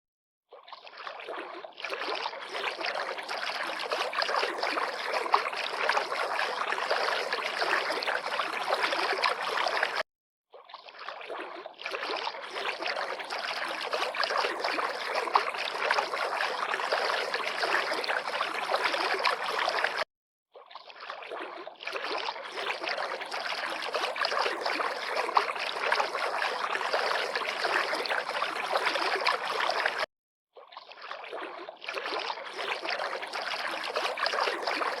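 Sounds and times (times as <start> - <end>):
river water lapping and splashing: 0.5 - 35.0.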